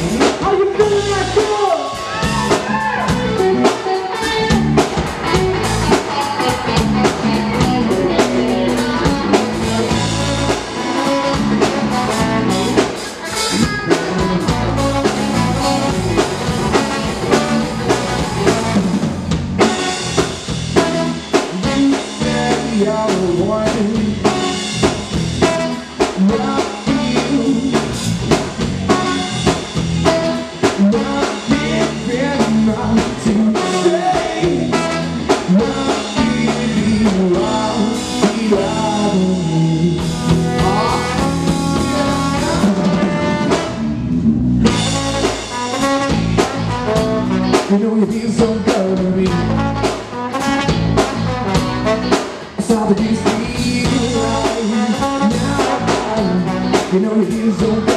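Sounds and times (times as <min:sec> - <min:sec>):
drum kit beat: 0:00.0 - 0:44.0, 0:44.6 - 0:57.9
electric bass: 0:00.0 - 0:57.9
electric guitar: 0:00.0 - 0:57.9
trombone: 0:05.3 - 0:47.9, 0:48.6 - 0:52.5, 0:53.2 - 0:57.9.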